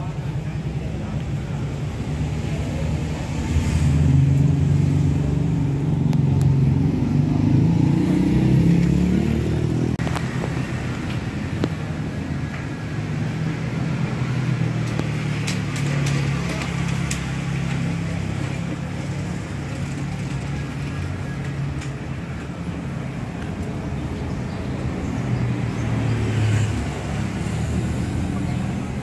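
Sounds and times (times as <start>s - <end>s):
passing car and motorbike engines: 0.1s - 29.0s.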